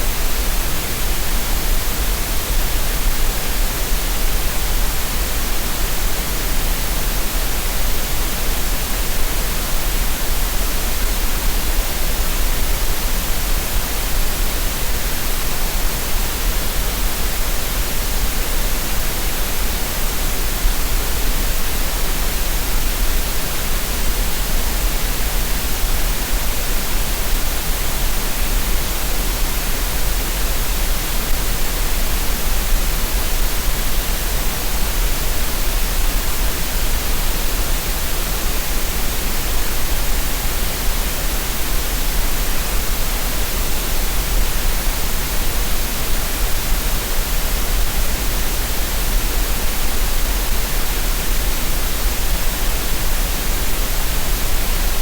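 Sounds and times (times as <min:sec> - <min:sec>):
steady synthetic noise hiss: 0:00.0 - 0:55.0.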